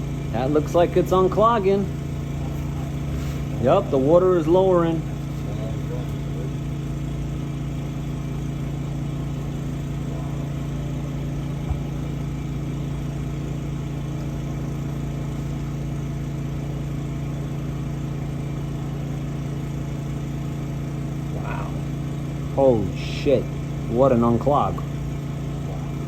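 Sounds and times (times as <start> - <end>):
water jetter engine running: 0.0 - 26.0.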